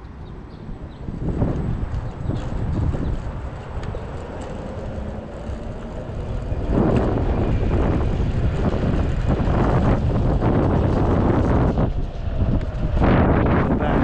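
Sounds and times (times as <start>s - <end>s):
small wheels rumbling on asphalt: 0.0s - 14.0s
wind buffeting microphone: 0.0s - 14.0s.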